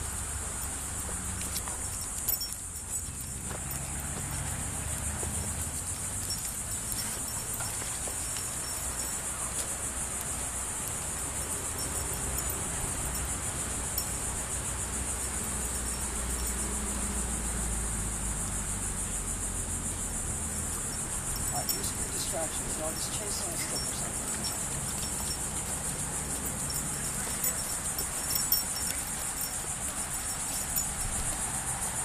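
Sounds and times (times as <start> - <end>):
insect chorus trilling: 0.0 - 32.0.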